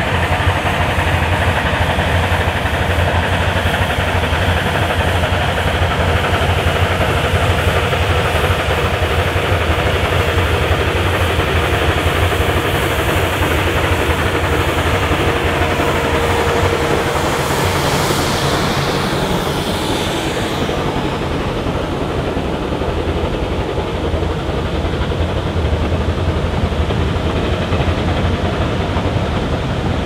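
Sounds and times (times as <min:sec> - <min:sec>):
steam train running: 0:00.0 - 0:30.0.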